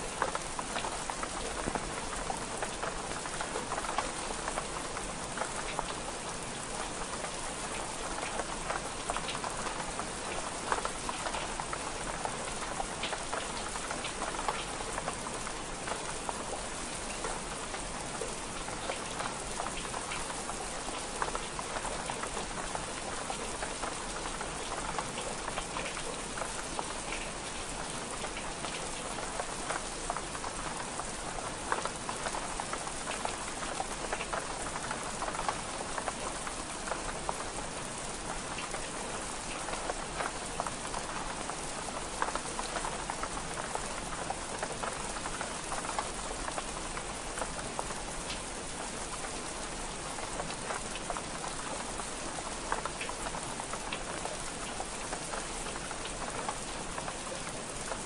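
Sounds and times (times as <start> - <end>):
rain on window glass: 0.0 - 58.0.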